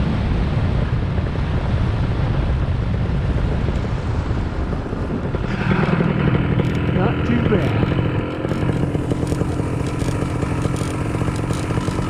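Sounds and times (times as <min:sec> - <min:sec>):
engine rumbling: 0:00.0 - 0:12.0
wind rushing over microphone: 0:00.0 - 0:12.0.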